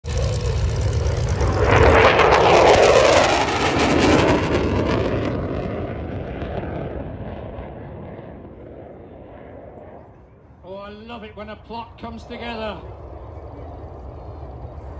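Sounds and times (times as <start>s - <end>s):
jet flying past: 0.1s - 14.9s.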